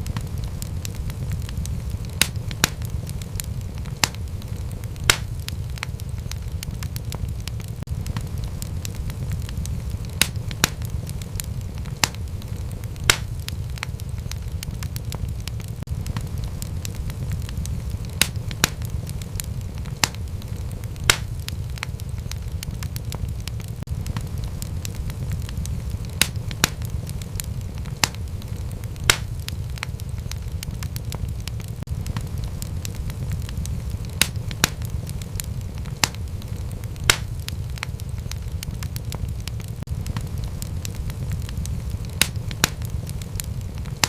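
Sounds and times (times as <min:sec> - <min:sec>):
low rumble of flames: 0:00.0 - 0:44.0
wood fire crackles and pops: 0:00.0 - 0:44.0.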